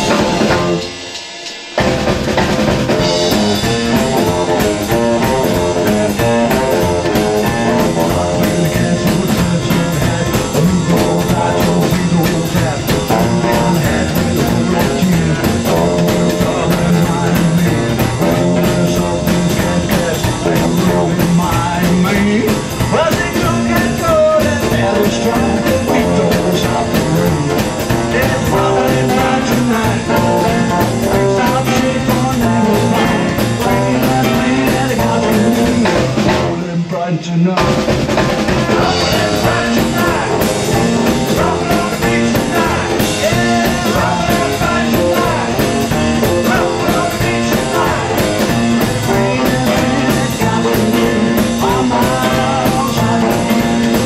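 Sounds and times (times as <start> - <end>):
drum kit: 0.0 - 54.0
electric guitar through amp: 0.0 - 54.0
upright bass: 0.0 - 54.0.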